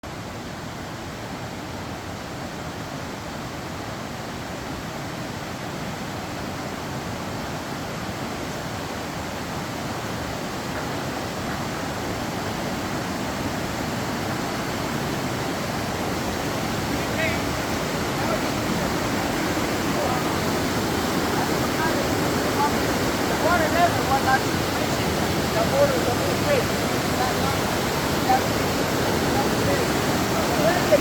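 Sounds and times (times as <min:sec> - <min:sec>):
fast-flowing river rushing: 0:00.0 - 0:31.0.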